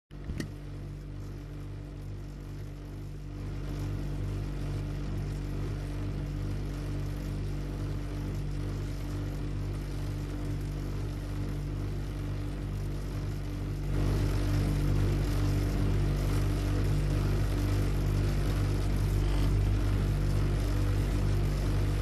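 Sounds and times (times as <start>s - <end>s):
low pulsing mechanical drone: 0.2s - 22.0s.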